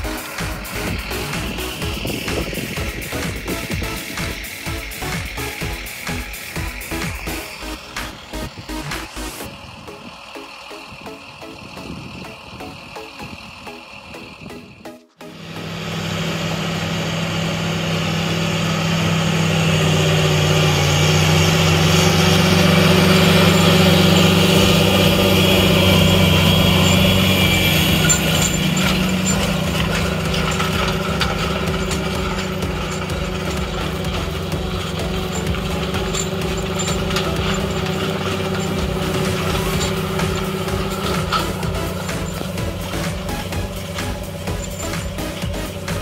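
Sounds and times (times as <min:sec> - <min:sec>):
tractor diesel engine under load: 0:00.0 - 0:46.0.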